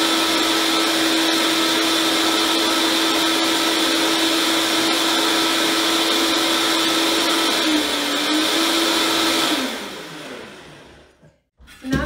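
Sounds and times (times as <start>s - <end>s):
blender motor running: 0.0s - 11.2s.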